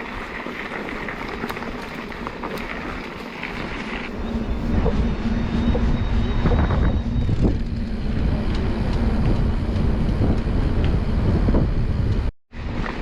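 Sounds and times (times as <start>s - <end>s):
bike riding rumble: 0.0s - 13.0s
wind buffeting microphone: 0.0s - 13.0s.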